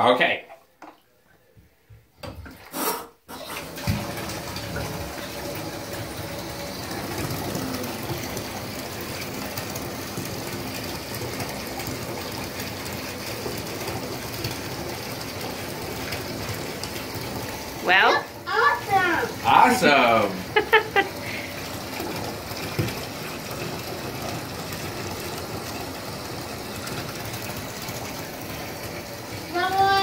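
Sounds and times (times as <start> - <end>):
water pouring into bathtub: 2.5 - 30.0.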